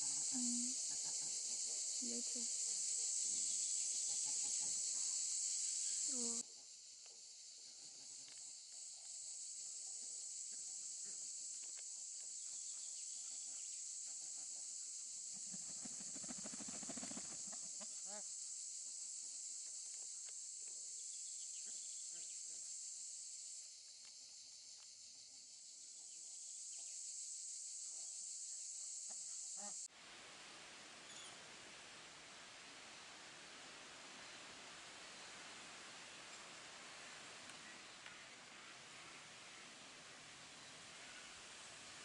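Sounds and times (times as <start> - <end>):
high-pitched outdoor hiss: 0.0 - 42.0
insects chirring: 0.0 - 42.0.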